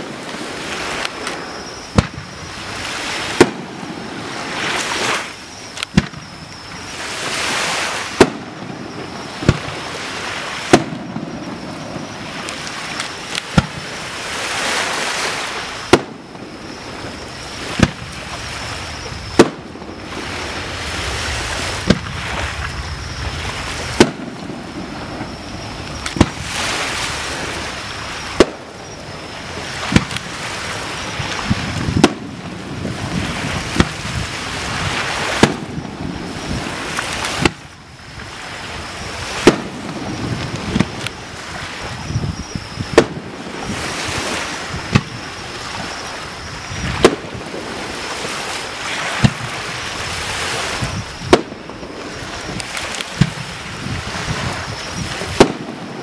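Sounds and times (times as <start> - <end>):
firework shells bursting: 0.0 - 14.3, 15.7 - 22.8, 23.4 - 37.8, 39.1 - 41.2, 42.8 - 45.2, 46.9 - 48.2, 50.8 - 53.5, 55.2 - 56.0.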